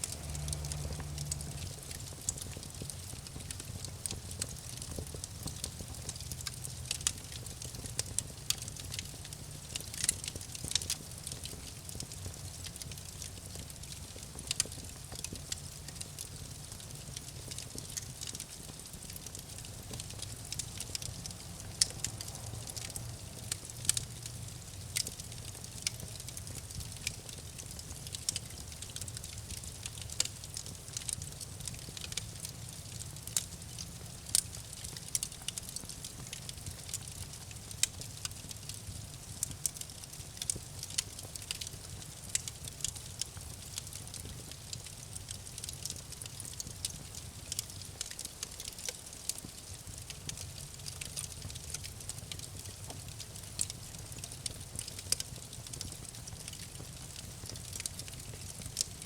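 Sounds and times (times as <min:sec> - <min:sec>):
campfire crackling: 0:00.0 - 0:59.0.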